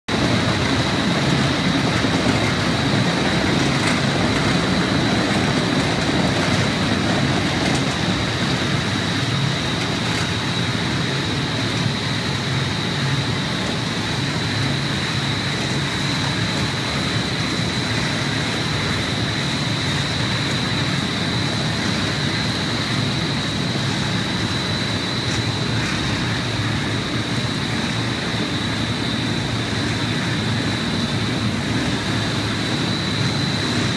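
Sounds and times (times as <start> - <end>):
floor grinder grinding mortar: 0.1 - 33.9
steady high whine: 0.1 - 33.9.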